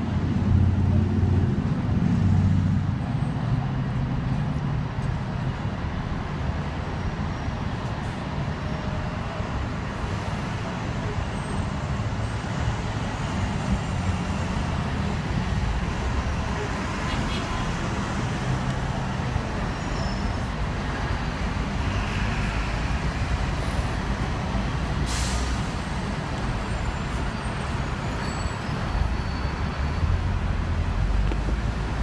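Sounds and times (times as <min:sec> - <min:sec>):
low rumble of street traffic: 0:00.0 - 0:32.0.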